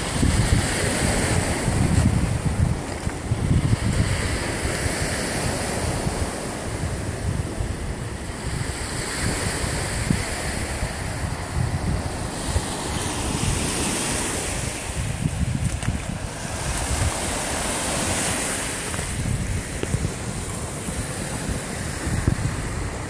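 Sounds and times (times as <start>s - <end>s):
lake waves washing in: 0.0s - 23.0s
wind buffeting microphone: 0.0s - 23.0s.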